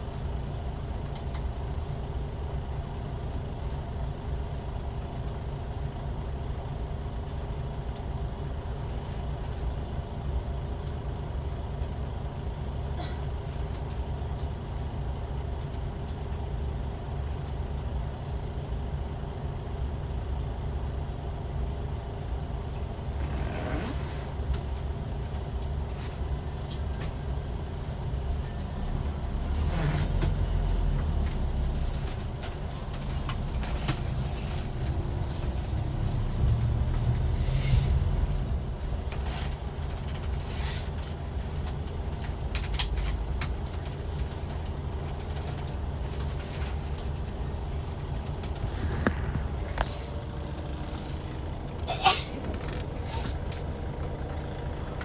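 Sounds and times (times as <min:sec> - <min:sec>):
diesel coach engine rumbling: 0:00.0 - 0:55.0.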